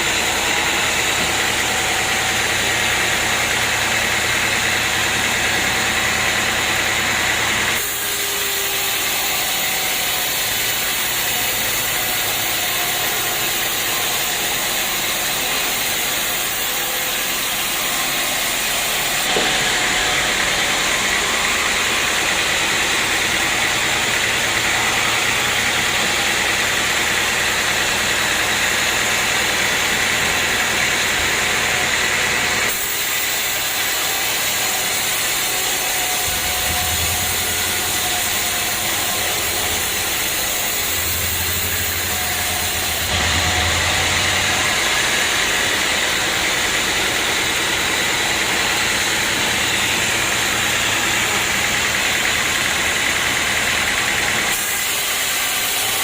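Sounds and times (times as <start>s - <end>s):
sawmill engine and saw running: 0.0s - 56.0s.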